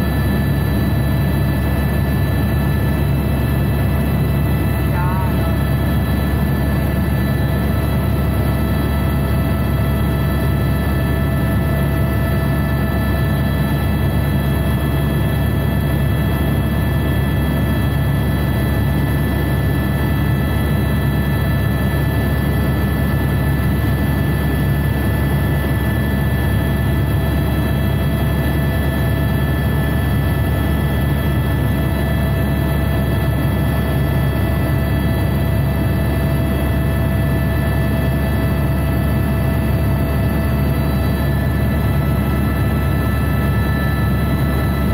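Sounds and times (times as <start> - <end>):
helicopter cabin drone: 0.0 - 44.9.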